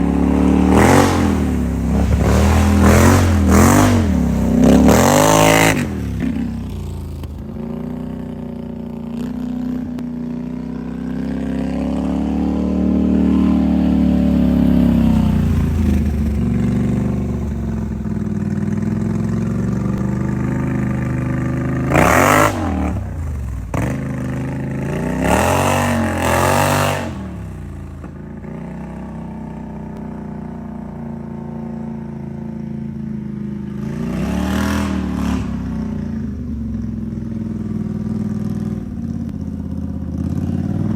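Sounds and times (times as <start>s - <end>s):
engine revving and idling: 0.0s - 40.9s.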